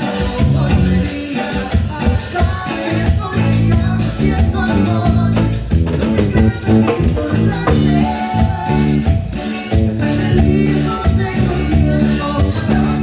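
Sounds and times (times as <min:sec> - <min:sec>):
latin dance music: 0:00.0 - 0:13.0.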